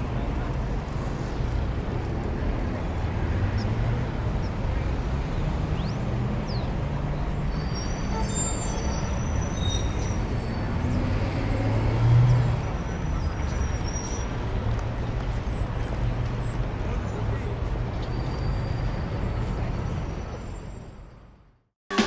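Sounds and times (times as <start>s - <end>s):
cars driving by: 0.0s - 21.0s.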